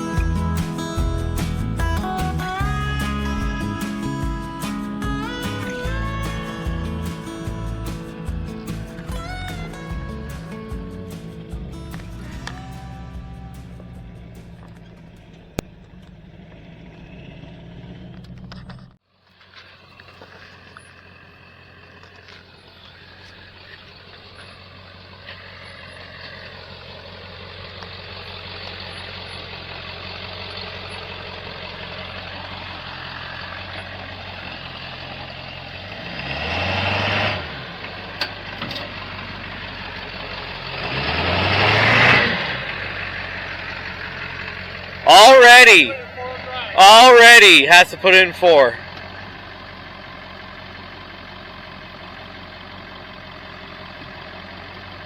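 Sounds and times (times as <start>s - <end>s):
truck engine revving: 0.0s - 19.0s, 20.1s - 55.0s.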